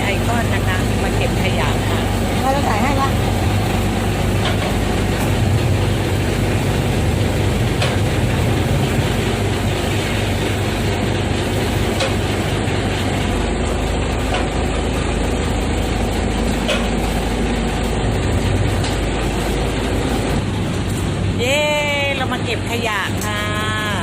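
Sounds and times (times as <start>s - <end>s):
boat engine humming: 0.0s - 24.0s
constant rushing noise: 0.0s - 24.0s.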